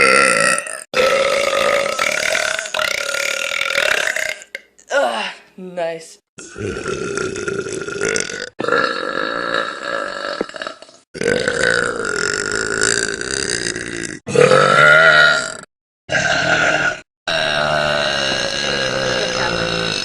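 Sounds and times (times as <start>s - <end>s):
women burping: 0.0s - 5.4s, 6.4s - 20.0s.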